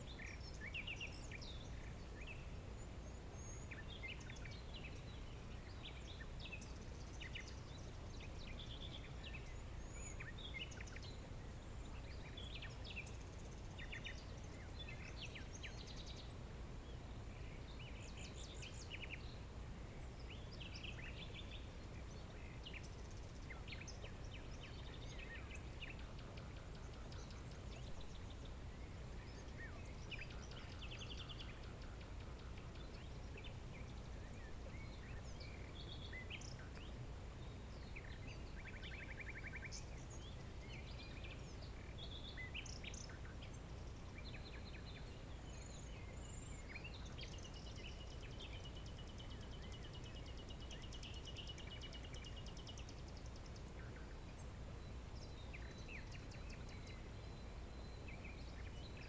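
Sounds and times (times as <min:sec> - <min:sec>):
wild birds chirping and trilling: 0:00.0 - 0:59.0.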